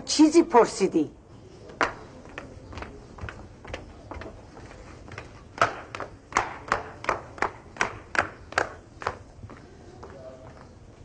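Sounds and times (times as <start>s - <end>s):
footsteps down outdoor stairs: 0.3s - 11.0s.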